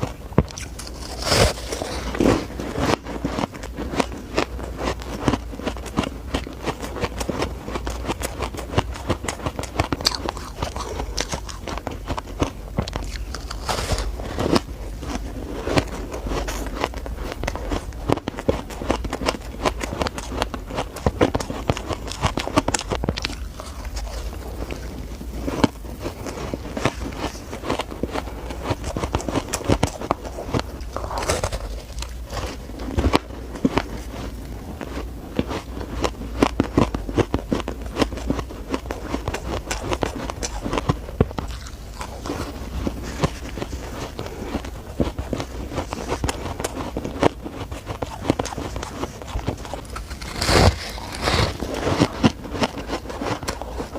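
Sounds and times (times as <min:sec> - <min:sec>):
person chewing shaved ice: 0:00.0 - 0:53.9.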